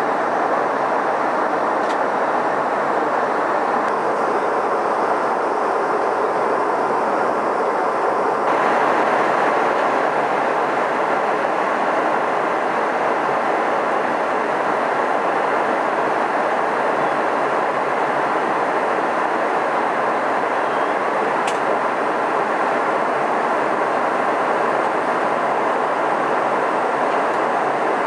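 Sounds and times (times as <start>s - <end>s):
airliner cabin noise in flight: 0.0s - 28.0s.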